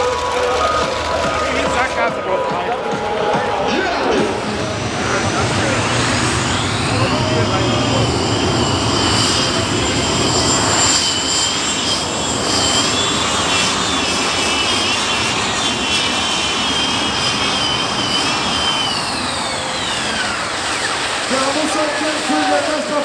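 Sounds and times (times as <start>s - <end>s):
pulling tractor roaring with whine: 0.0s - 23.0s.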